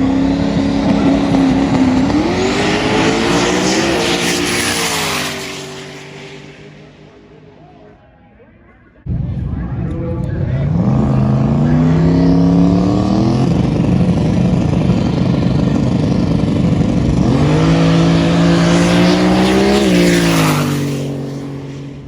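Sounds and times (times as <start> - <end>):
drag race car engine at full throttle: 0.0 - 22.0.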